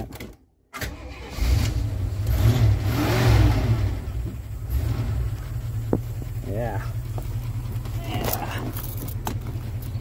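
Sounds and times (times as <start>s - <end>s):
car engine starting and revving: 0.8s - 10.0s.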